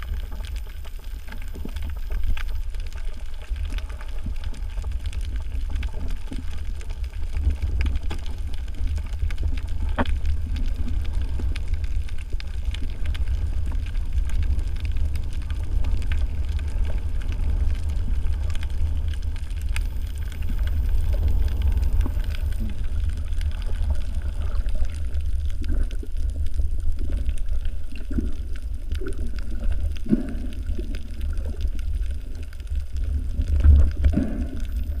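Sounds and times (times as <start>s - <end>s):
faint clicks and crackles: 0.0s - 35.0s
muffled rumble of moving water: 0.0s - 35.0s.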